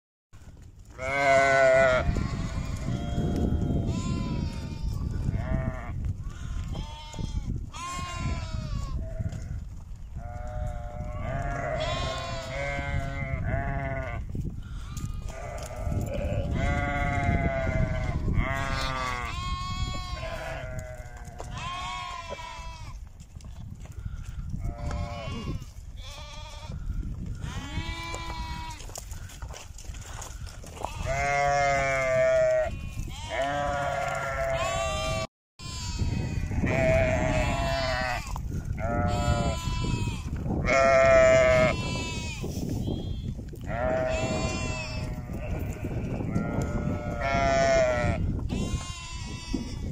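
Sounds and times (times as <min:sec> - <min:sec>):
sheep bleating: 0:01.0 - 0:09.6, 0:10.2 - 0:23.0, 0:24.6 - 0:29.3, 0:30.8 - 0:49.9.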